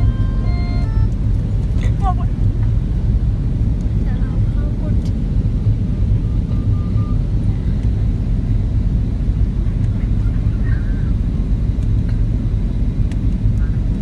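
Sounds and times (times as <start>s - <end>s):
airliner cabin engine drone: 0.0s - 14.0s.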